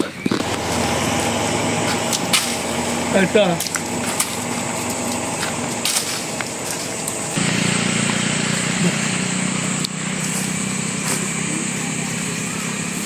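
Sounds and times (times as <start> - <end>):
small engine running: 0.3 - 13.0.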